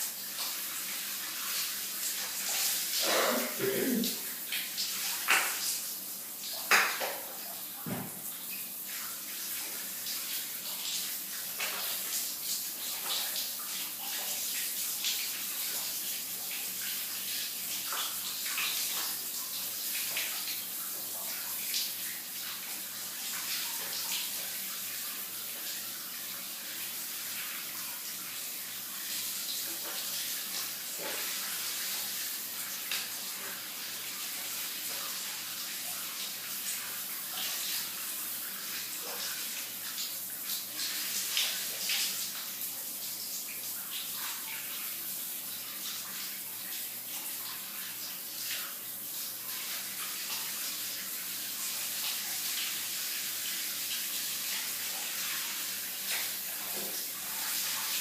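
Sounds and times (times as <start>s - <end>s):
shower running: 0.0s - 58.0s.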